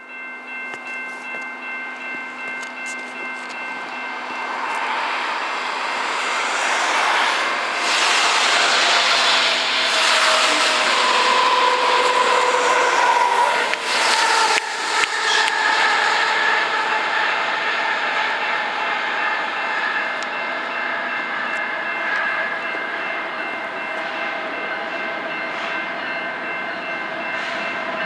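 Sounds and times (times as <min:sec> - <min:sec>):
diesel locomotive engines: 0:00.0 - 0:28.0
train wheels on rails: 0:00.0 - 0:28.0.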